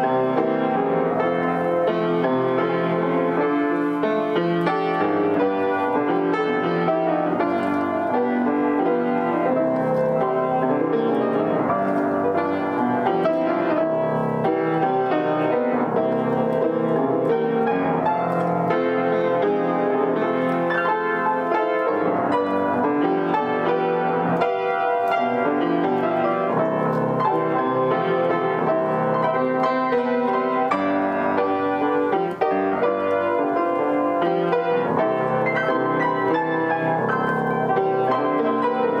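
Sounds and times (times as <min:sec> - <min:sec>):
upright piano melody with chords: 0:00.0 - 0:39.0.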